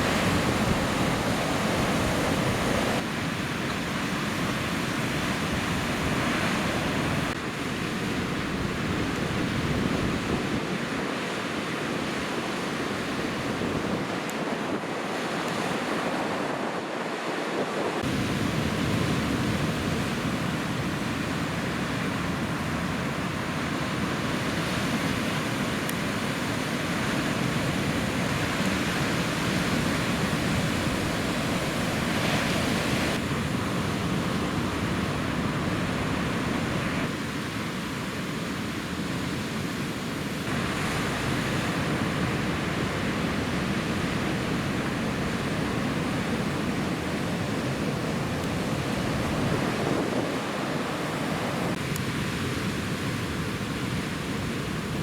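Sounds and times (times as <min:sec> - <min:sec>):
ocean surf washing: 0:00.0 - 0:55.0
wind noise on microphone: 0:00.0 - 0:55.0.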